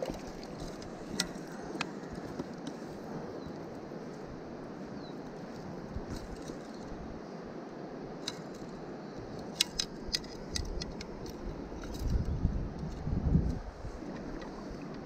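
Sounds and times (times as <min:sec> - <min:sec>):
river flowing: 0:00.0 - 0:11.9, 0:13.6 - 0:15.0.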